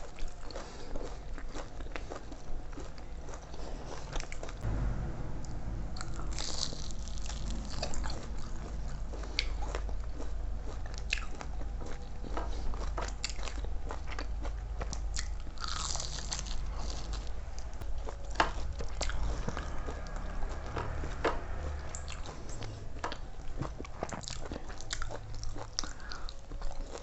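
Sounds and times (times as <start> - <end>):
person chewing crunchy food: 0.0 - 4.6, 6.6 - 27.0.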